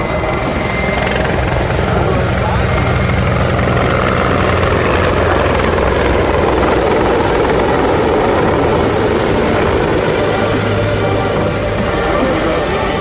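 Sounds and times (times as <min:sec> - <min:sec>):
helicopter rotor and engines: 0:00.0 - 0:13.0.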